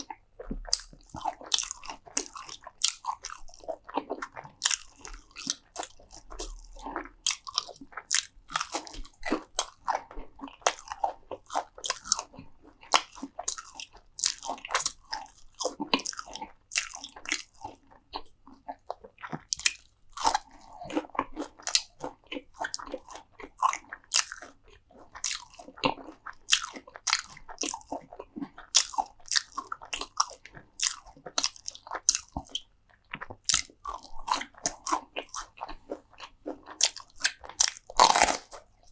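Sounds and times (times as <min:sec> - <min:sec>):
chewing crunchy food: 0:00.0 - 0:38.9
wet mouth sounds: 0:00.0 - 0:38.9.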